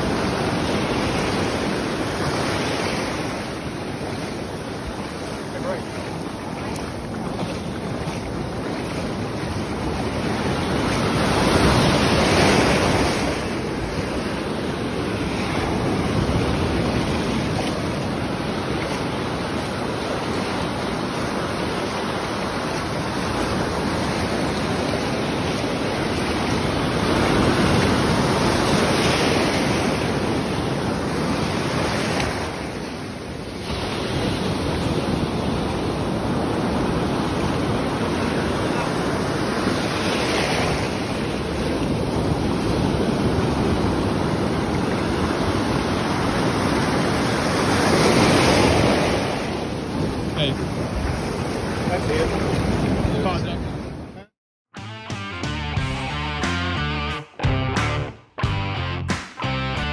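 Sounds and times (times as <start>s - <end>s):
ocean surf breaking: 0.0s - 54.3s.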